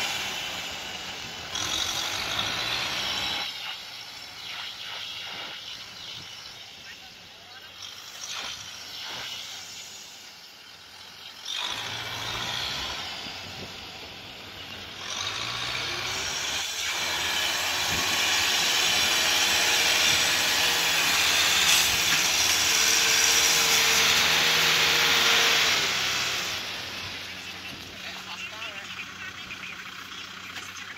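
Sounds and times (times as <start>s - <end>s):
tractor diesel engine under load: 0.0s - 30.9s.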